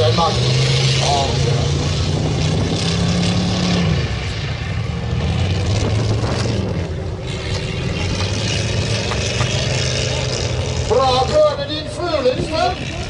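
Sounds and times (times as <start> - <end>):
distant car engines droning: 0.0 - 13.0.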